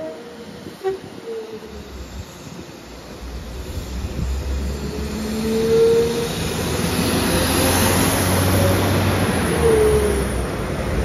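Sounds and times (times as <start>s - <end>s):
rail noise: 0.0s - 11.0s
train engine rumble: 0.0s - 11.0s.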